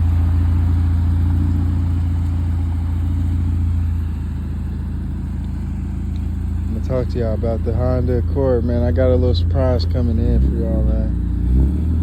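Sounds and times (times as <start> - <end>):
car engine deep exhaust drone: 0.0 - 12.0.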